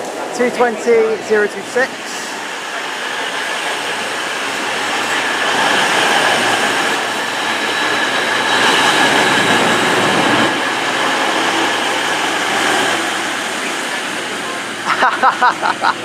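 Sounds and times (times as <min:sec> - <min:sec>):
diesel train slowing to a stop: 0:00.0 - 0:16.0
train engine high whine: 0:00.0 - 0:16.0.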